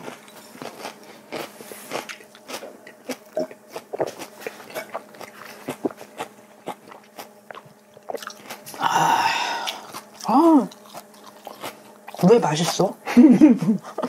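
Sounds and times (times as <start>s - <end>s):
chewing: 0.0s - 8.8s, 9.5s - 12.8s.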